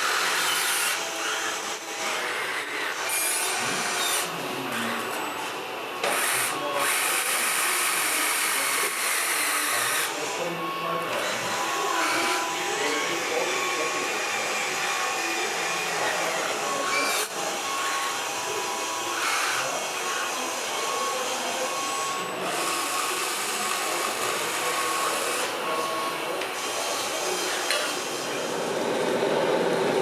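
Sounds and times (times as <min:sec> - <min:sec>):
electric motors whirring: 0:00.0 - 0:30.0
murmur of voices: 0:01.6 - 0:30.0.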